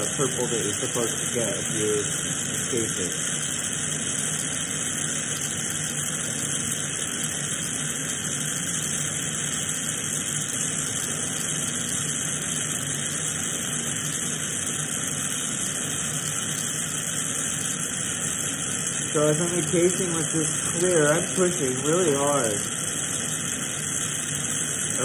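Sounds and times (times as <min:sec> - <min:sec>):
torch flame hissing: 0:00.0 - 0:25.0.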